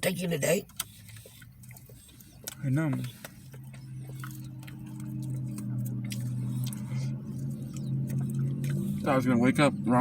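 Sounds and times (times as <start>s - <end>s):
low engine hum: 0.1s - 10.0s.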